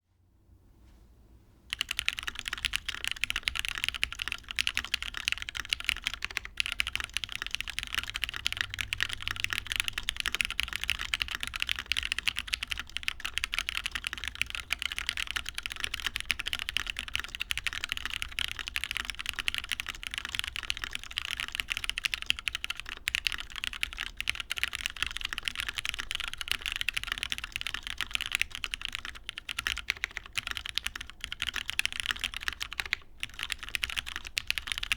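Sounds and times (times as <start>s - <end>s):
fast mechanical keyboard typing: 1.7s - 34.9s.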